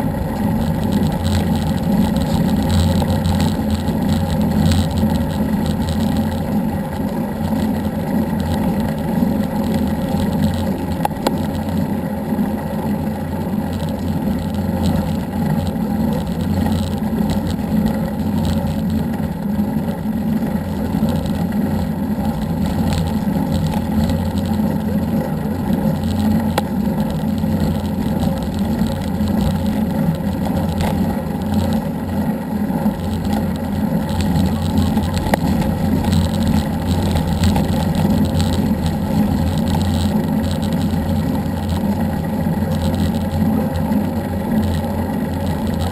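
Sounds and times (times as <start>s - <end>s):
road and wind noise: 0.0s - 45.9s
vehicle engine drone: 0.0s - 45.9s.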